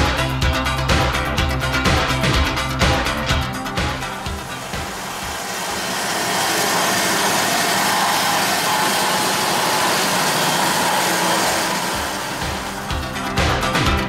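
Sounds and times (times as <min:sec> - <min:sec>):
band saw cutting steel tubes: 0:01.9 - 0:14.0.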